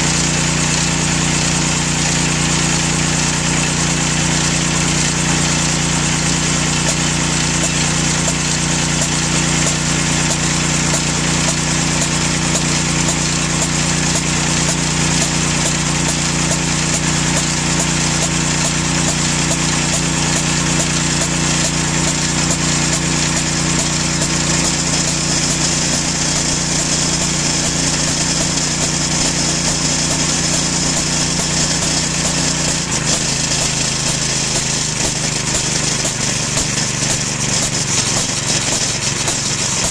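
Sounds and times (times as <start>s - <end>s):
air compressor pumping: 0.0s - 39.9s
engine running steadily: 0.0s - 39.9s.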